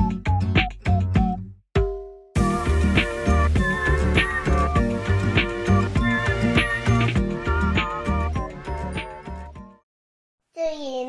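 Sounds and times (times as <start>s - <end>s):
upbeat music with bass line: 0.0s - 9.8s.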